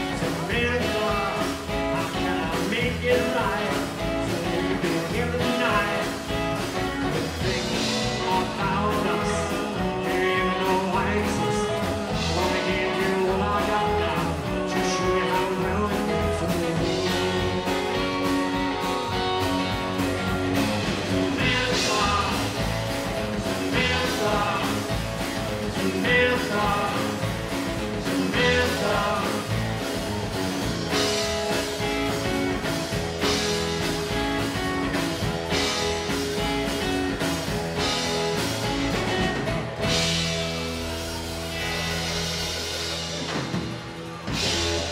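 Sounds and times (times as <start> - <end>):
man singing lead: 0.0 - 40.2
drum kit steady beat: 0.0 - 44.9
electric guitar: 0.0 - 44.9.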